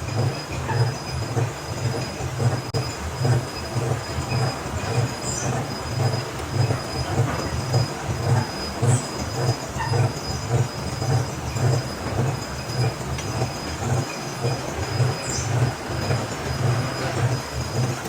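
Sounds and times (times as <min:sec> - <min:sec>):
machinery rhythmic thump: 0:00.0 - 0:18.0
machinery rumble: 0:00.0 - 0:18.0.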